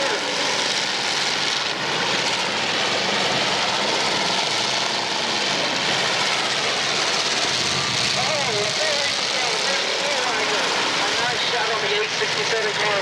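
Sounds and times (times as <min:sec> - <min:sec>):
several car engines running: 0:00.0 - 0:13.0.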